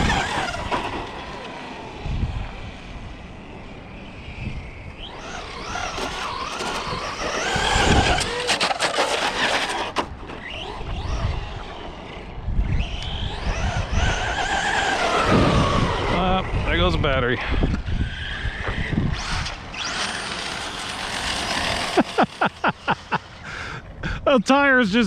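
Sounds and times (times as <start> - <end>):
tires skidding on pavement: 0.0 - 23.8
rc car motors whining: 0.0 - 23.9.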